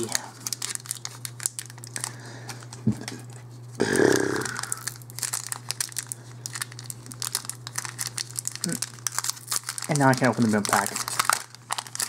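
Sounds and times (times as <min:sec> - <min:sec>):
foil wrapper crinkling and tearing: 0:00.0 - 0:03.7, 0:04.3 - 0:12.0.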